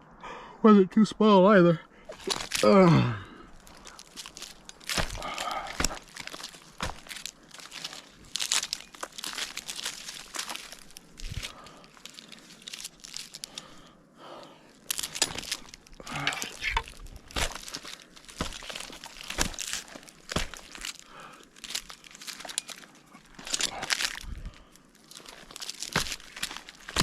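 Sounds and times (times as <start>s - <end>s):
climbing spurs crunching bark: 2.1s - 27.0s.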